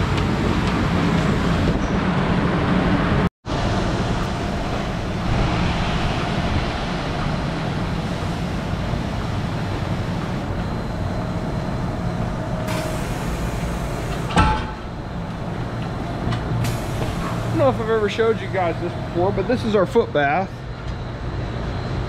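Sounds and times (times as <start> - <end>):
barn machinery drone: 0.0 - 22.0.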